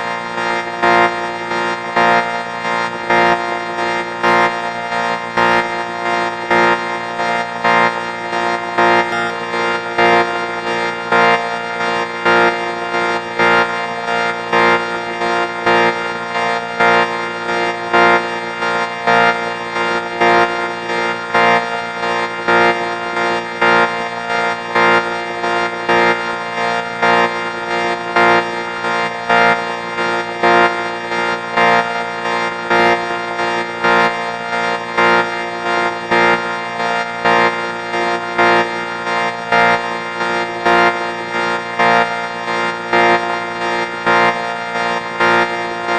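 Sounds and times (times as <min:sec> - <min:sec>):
pulsing buzzy organ-like chord: 0:00.0 - 0:45.9.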